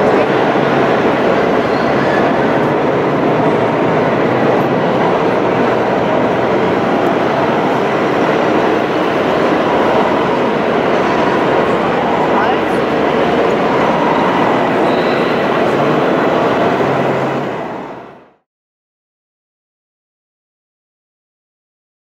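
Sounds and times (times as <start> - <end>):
busy indoor exhibition hall din: 0.0 - 18.4.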